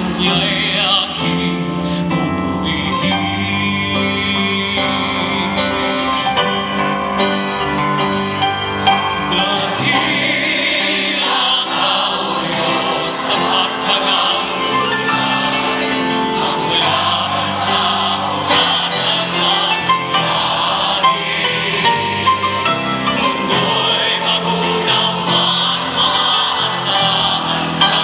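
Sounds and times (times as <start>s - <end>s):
choir singing gospel music: 0.0s - 28.0s
live band playing: 0.0s - 28.0s.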